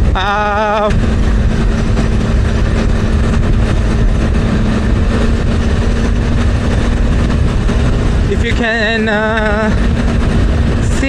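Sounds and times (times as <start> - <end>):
motorcycle engine drone: 0.0 - 11.0
road and wind noise: 0.0 - 11.0.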